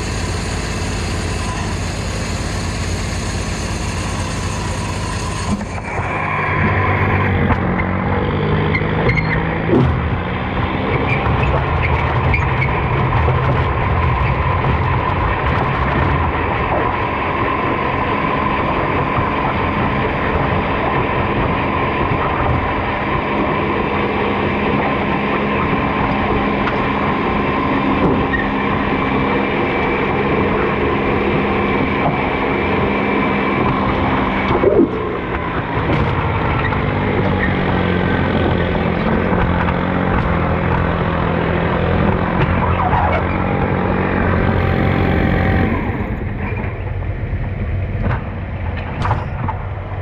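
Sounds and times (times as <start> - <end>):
tractor engine running under load: 0.0 - 50.0.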